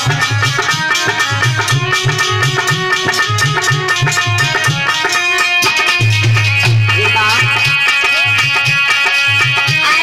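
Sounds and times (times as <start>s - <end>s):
hand drum beat: 0.0s - 10.0s
harmonium melody: 0.0s - 10.0s
high jingling percussion: 0.0s - 10.0s.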